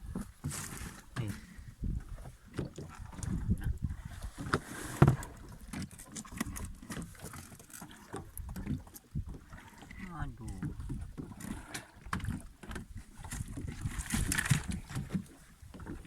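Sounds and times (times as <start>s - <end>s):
knocks and thumps on boat: 0.0s - 16.0s.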